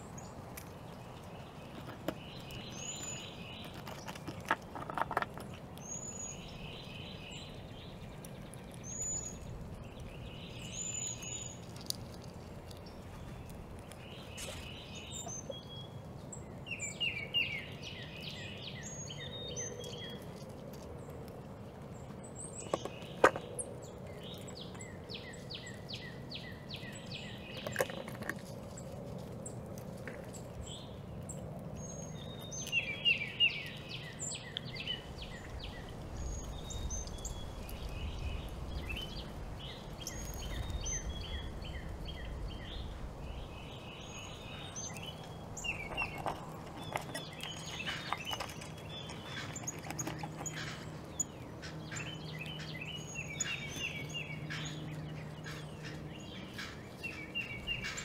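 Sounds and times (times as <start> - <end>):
songbird singing a trill: 0.0 - 4.1, 5.7 - 20.2, 22.0 - 28.1, 30.6 - 58.0.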